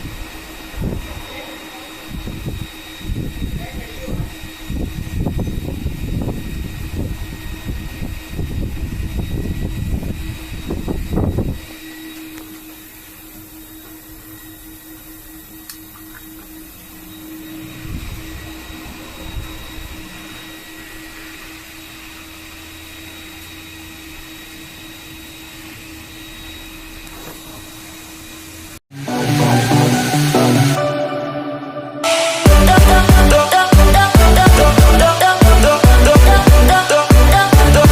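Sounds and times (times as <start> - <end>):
fan motor hum with whine: 0.0 - 30.9, 32.4 - 37.9
fan air rushing: 0.0 - 31.1, 32.0 - 37.9.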